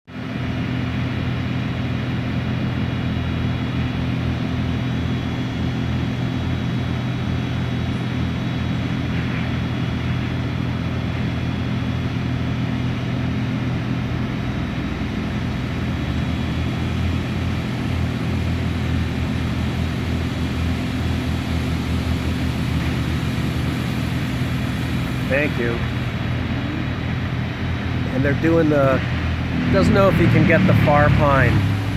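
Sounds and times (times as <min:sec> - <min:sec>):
engine droning: 0:00.1 - 0:31.9.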